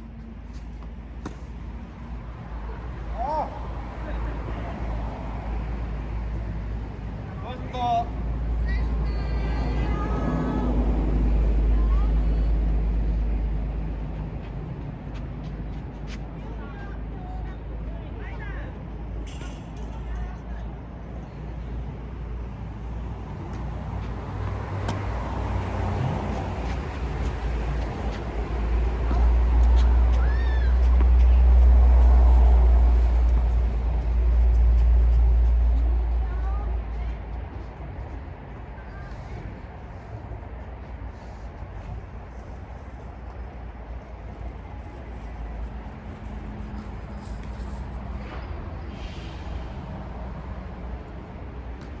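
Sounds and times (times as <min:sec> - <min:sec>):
low outdoor rumble: 0:09.5 - 0:52.0.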